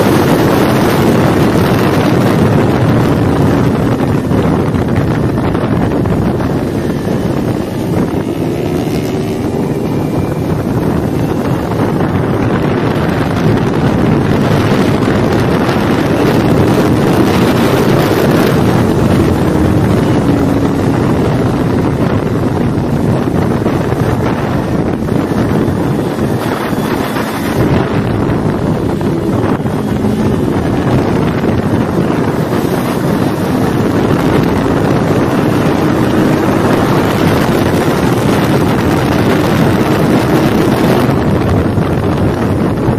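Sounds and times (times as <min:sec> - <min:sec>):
motorcycle engine revving: 0:00.0 - 0:42.9
wind noise on microphone: 0:00.0 - 0:42.9.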